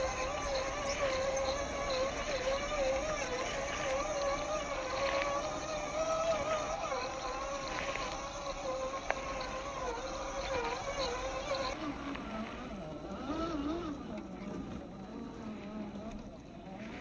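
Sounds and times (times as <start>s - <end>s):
electric motor and gearbox whining: 0.0s - 17.0s.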